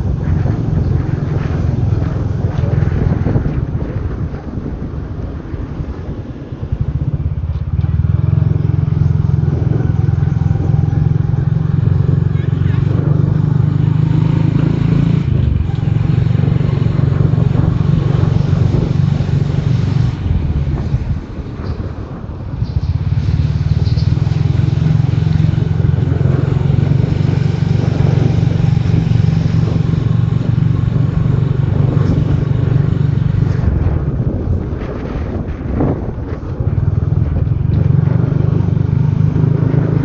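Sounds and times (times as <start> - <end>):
motorcycle engine running: 0.0 - 40.0
wind rushing: 0.0 - 40.0.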